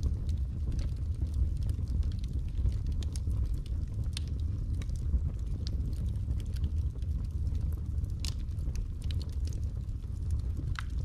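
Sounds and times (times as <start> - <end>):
fire rumbling: 0.0 - 11.0
wood crackling and popping: 0.0 - 11.0.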